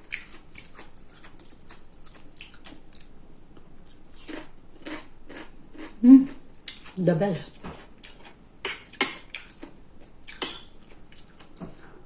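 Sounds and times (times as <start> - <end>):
chewing crunchy food: 0.0 - 11.8.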